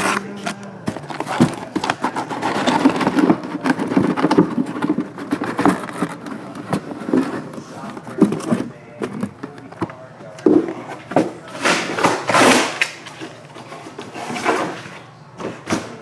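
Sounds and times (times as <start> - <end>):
plastic wrap rustling: 0.0 - 15.1.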